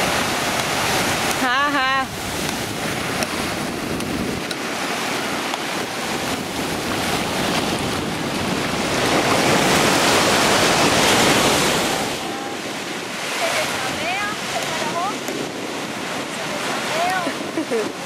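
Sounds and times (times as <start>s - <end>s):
surf washing onto shore: 0.0s - 18.0s
wind on microphone: 0.0s - 18.0s.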